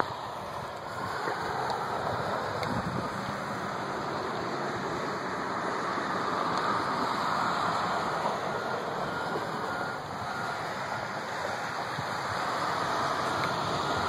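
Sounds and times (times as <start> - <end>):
fire roaring: 0.0 - 14.0.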